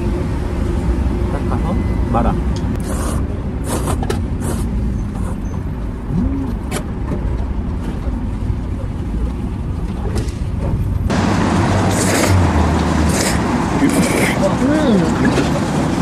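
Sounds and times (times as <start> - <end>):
engine rumble: 0.0 - 16.0.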